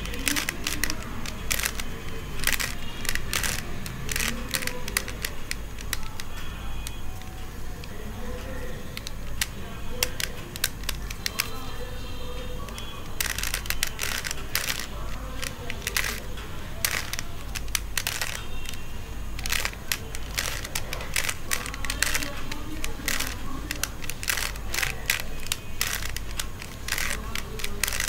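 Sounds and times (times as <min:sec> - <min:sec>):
puzzle cube layers clicking: 0:00.0 - 0:11.7, 0:12.6 - 0:28.0.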